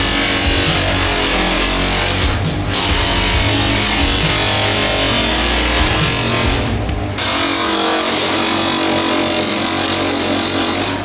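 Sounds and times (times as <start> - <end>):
buffing wheel polishing metal: 0.0 - 11.0.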